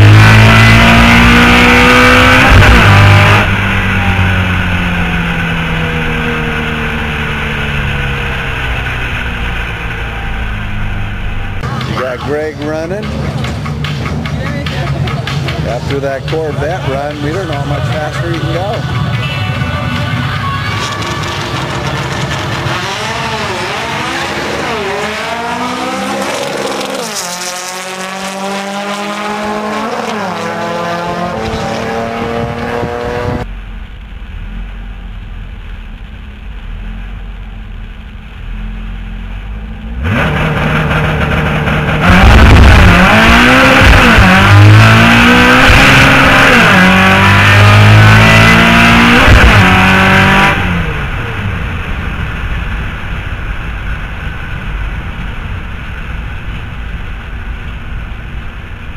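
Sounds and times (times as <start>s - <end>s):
car engine revving: 0.0s - 58.9s.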